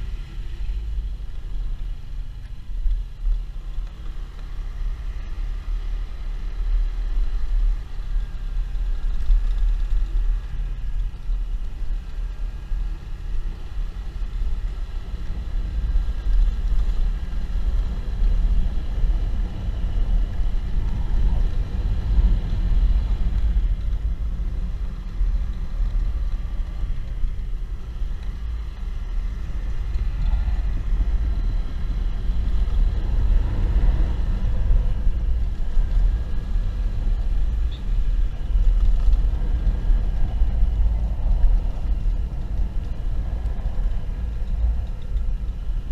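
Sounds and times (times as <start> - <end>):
motorcycle road noise: 0.0 - 45.9
wind buffeting microphone: 6.6 - 45.9.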